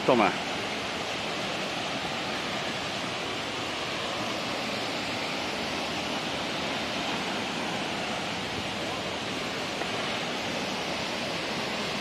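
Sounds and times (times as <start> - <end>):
rocky stream running: 0.0 - 12.0
waterfall rushing: 0.0 - 12.0.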